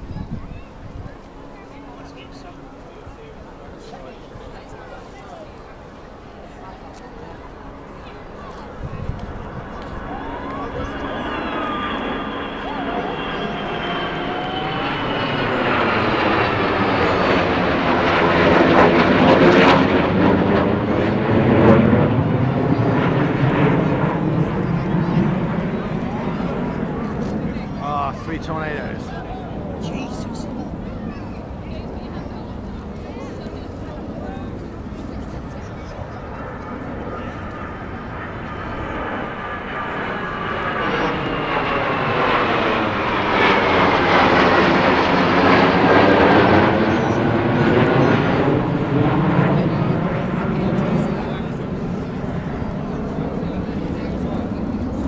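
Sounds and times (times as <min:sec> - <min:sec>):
aircraft engines passing overhead: 0:00.0 - 0:55.0.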